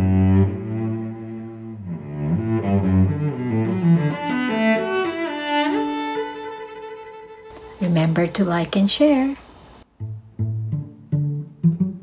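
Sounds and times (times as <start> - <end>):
cello melody: 0.0 - 7.8, 9.9 - 12.0
violin notes: 0.0 - 8.2, 9.9 - 12.0.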